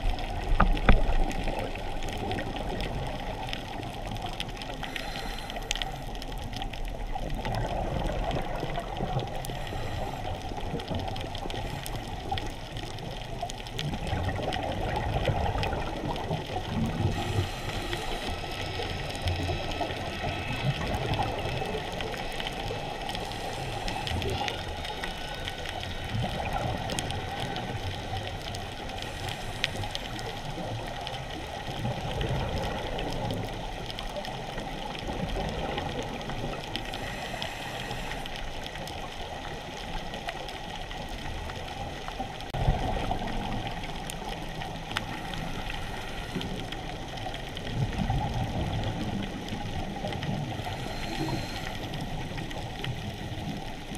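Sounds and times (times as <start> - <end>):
muffled underwater rush: 0.0 - 53.9.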